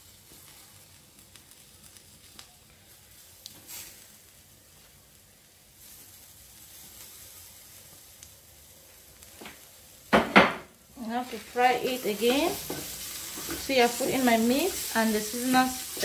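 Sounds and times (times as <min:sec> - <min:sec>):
rice and meat frying in oil: 0:00.0 - 0:16.0.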